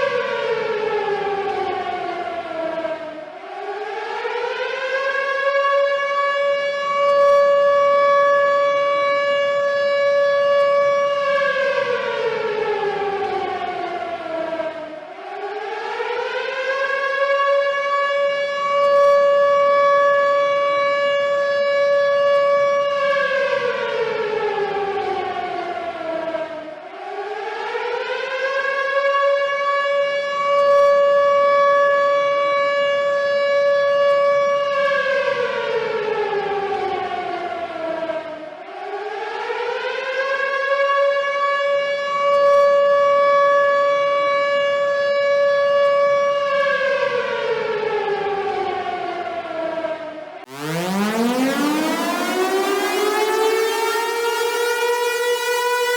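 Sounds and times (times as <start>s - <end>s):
warning siren wailing: 0.0s - 55.9s.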